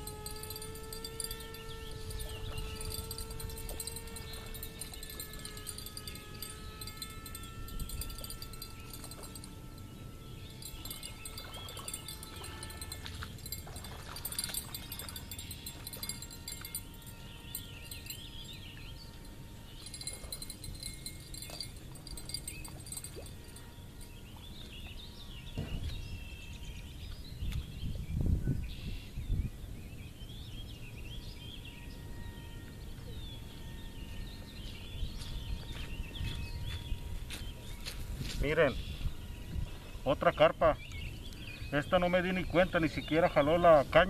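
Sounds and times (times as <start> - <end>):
birds chirping and singing: 0.0 - 44.0.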